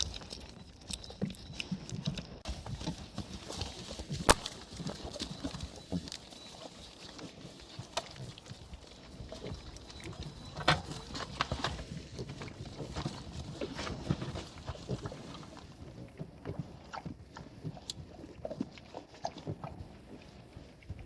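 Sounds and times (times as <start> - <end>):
farm animals moving about: 0.0 - 21.0.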